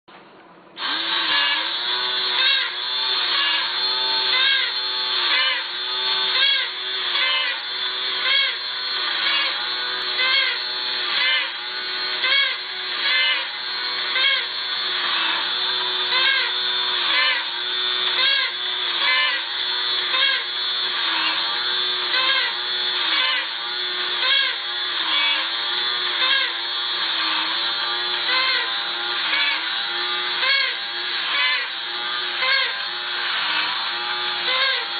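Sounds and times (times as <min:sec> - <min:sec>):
toy motor whirring: 0:00.8 - 0:34.9.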